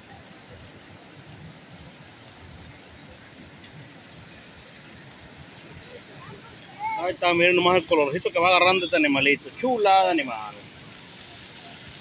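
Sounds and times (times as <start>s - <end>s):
fish sizzling in frying pan: 0.1s - 12.0s.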